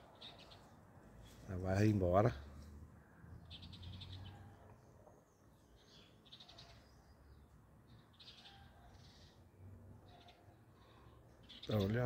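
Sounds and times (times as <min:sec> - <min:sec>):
small bird chirping trills: 0:00.0 - 0:01.4, 0:03.0 - 0:12.0.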